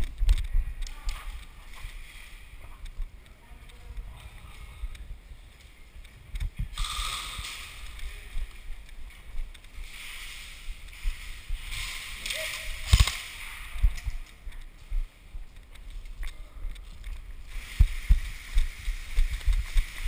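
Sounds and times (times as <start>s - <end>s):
rustling hiss: 0.8s - 20.0s.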